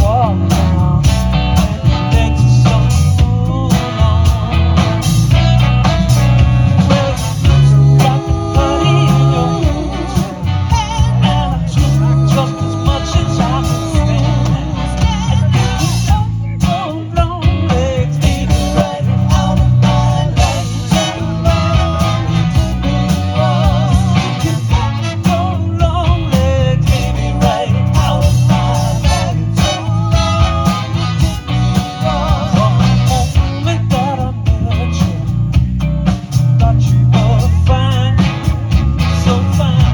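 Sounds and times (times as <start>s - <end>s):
band playing beach music: 0.0s - 39.9s.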